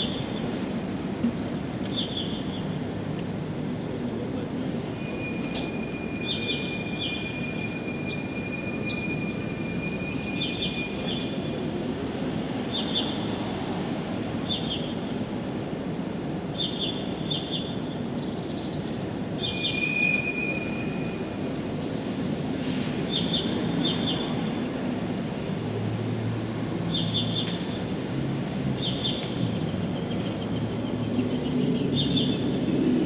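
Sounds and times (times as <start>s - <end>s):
songbirds singing: 0.0s - 15.2s, 16.2s - 21.4s, 22.6s - 32.8s.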